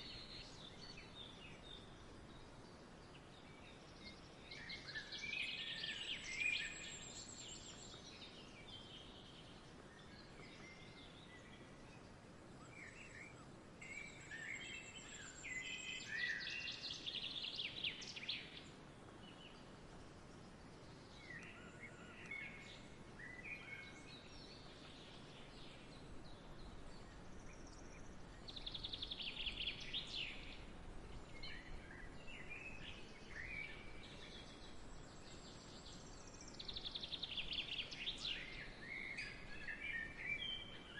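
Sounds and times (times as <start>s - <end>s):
faint background hiss: 0.0s - 40.9s
songbirds chirping and singing: 0.0s - 40.9s.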